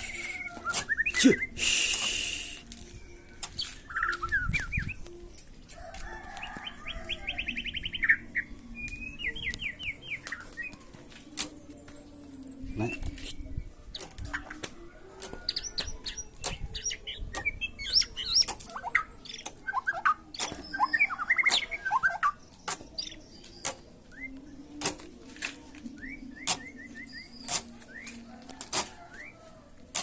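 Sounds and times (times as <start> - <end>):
songbird chirping and twittering: 0.0 - 30.0.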